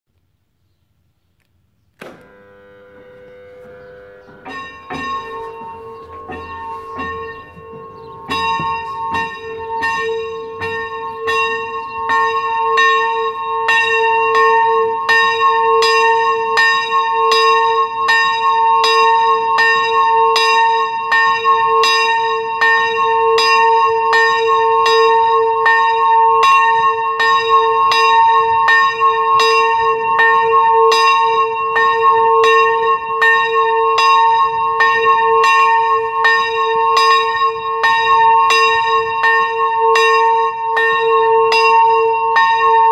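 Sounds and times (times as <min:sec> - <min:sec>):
small church bell ringing: 0:02.1 - 0:42.9.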